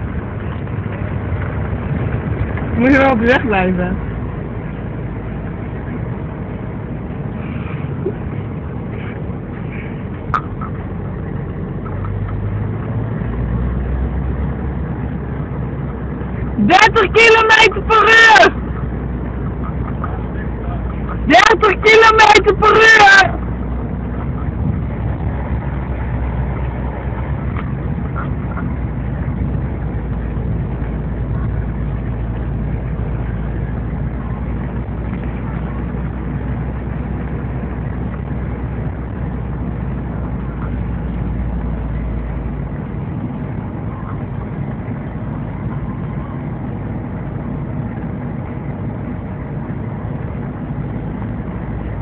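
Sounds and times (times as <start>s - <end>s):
wind buffeting microphone: 0.0s - 16.9s, 18.1s - 52.0s.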